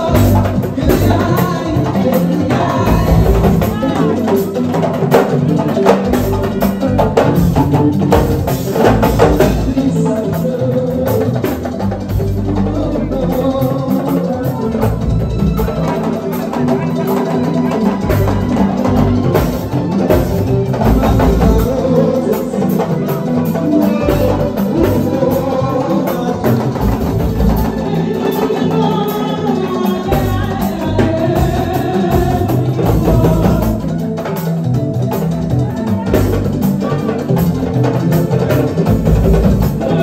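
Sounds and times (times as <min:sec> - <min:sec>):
drums and percussion: 0:00.0 - 0:40.0
keyboard: 0:00.0 - 0:40.0
person singing: 0:00.0 - 0:40.0.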